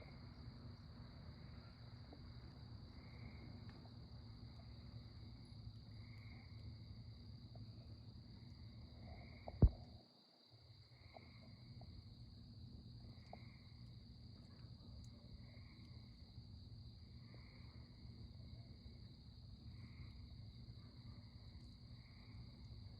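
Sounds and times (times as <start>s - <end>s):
crickets trilling: 0.0s - 22.9s.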